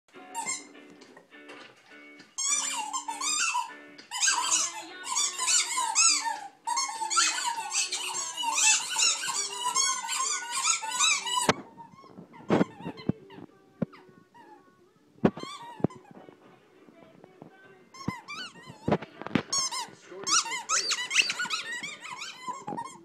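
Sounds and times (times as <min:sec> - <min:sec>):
squeaky dog toy squeaking: 0:00.3 - 0:00.8, 0:02.4 - 0:14.6, 0:15.2 - 0:16.2, 0:17.9 - 0:23.0.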